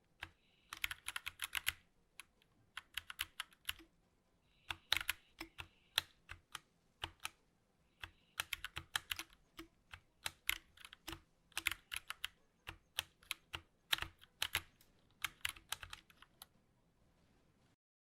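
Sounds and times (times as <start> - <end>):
mechanical keyboard typing: 0.2 - 3.9, 4.7 - 7.4, 8.0 - 16.5.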